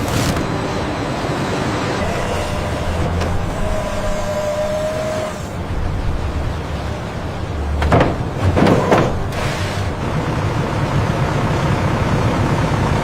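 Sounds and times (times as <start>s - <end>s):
held whine: 0.0s - 13.0s
machine rumble: 0.0s - 13.0s.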